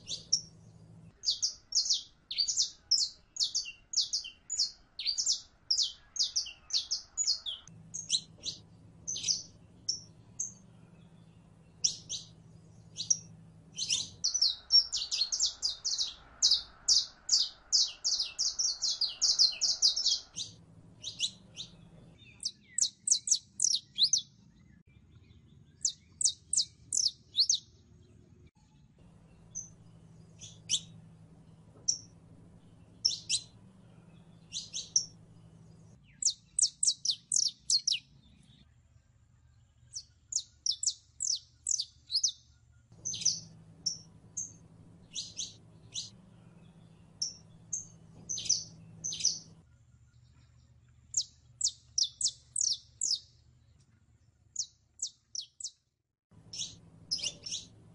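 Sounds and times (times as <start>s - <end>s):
finch chipping song: 0.0s - 28.3s, 28.9s - 38.6s, 39.6s - 53.9s, 54.6s - 57.9s.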